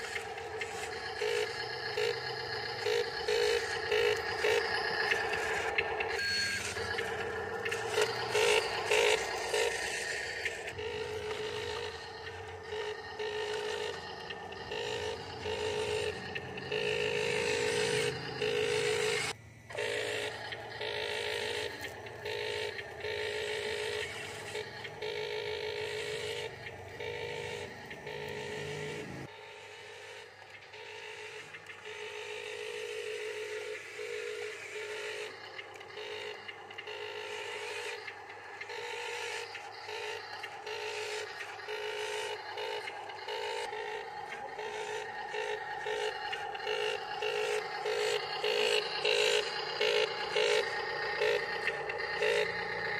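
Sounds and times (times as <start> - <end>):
electric motors whining: 0.0 - 52.9.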